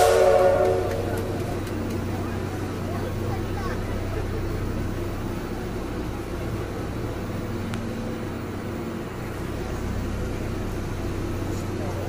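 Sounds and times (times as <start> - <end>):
train coach low hum: 0.0 - 12.0.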